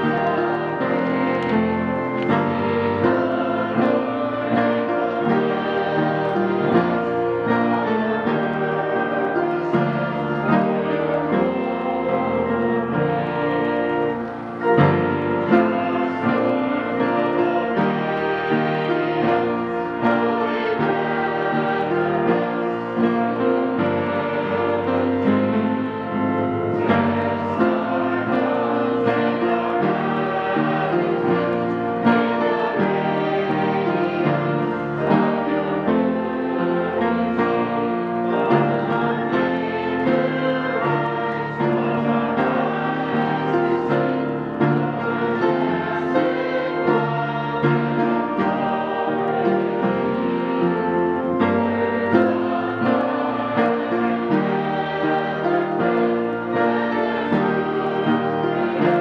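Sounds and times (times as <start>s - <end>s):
congregation singing a hymn: 0.0s - 59.0s
piano accompaniment: 0.0s - 59.0s.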